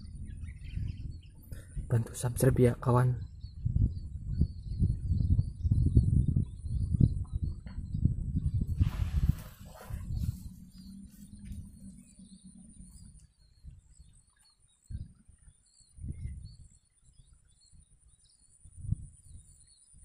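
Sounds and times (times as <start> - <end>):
low rumbles on microphone: 0.0 - 18.0, 18.6 - 20.0
small birds chirping: 0.0 - 20.0.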